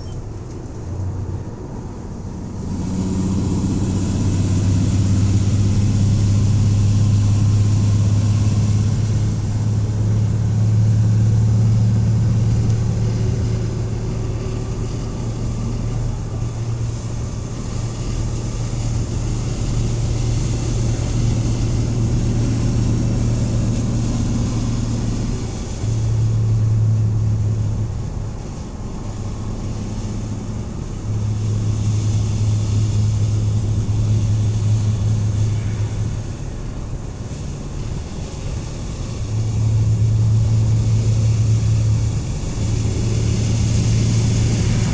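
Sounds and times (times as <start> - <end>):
van engine drone from inside: 0.0 - 44.9.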